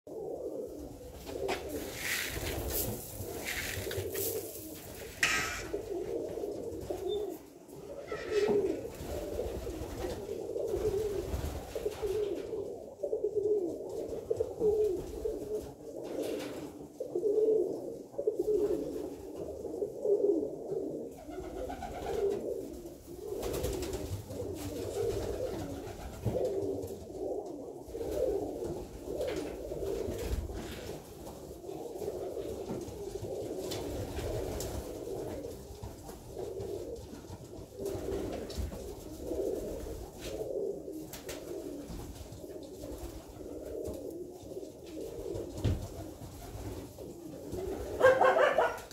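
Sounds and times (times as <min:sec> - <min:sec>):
pigeons cooing: 0:00.1 - 0:48.9.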